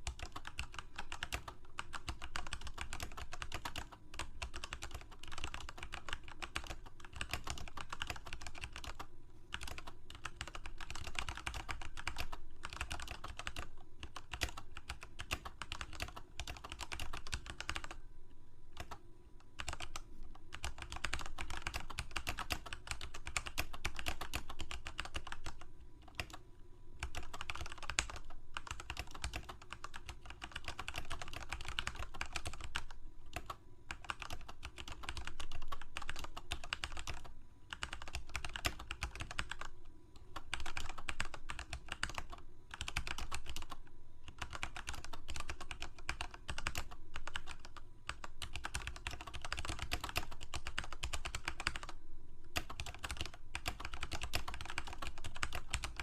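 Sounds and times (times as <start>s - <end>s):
typing on computer keyboard: 0.0s - 18.0s, 19.6s - 26.4s, 27.0s - 56.0s.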